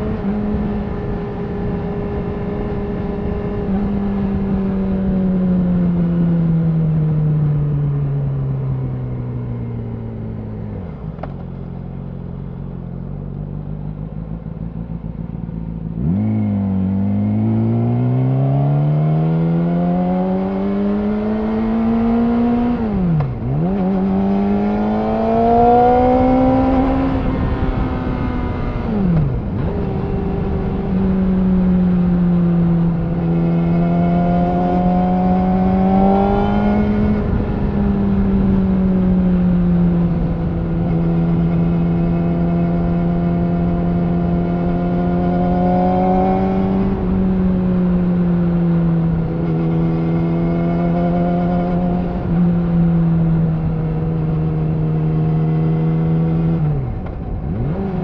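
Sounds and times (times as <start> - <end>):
motorcycle engine revving: 10.6 - 58.0.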